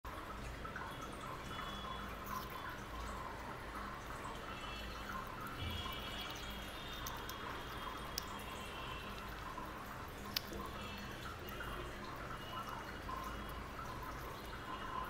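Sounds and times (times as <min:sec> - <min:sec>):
small animal chewing wetly: 0:00.1 - 0:15.0.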